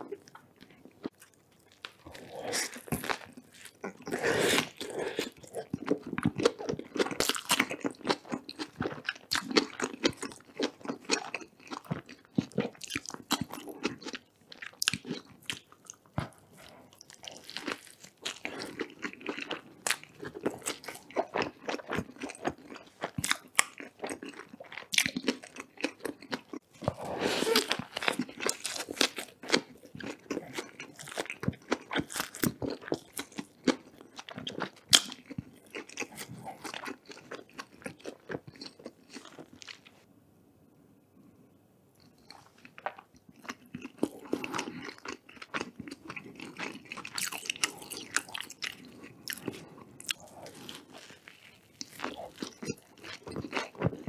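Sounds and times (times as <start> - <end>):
chewing and crunching food: 0.0 - 40.0, 42.0 - 54.0.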